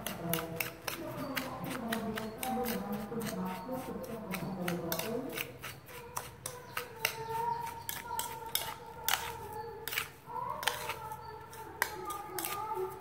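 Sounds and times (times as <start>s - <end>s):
metal spoon scraping ceramic bowl: 0.0s - 13.0s.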